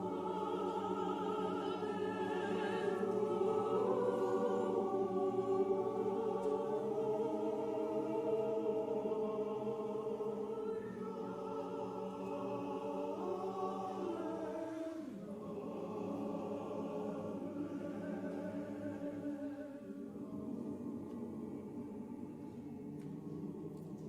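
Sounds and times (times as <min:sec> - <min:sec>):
church choir singing: 0:00.0 - 0:24.0.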